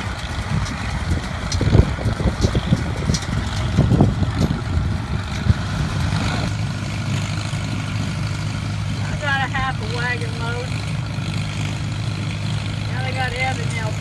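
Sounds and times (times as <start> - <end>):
engine knocks: 0.0 - 14.0
tractor engine running: 0.0 - 14.0.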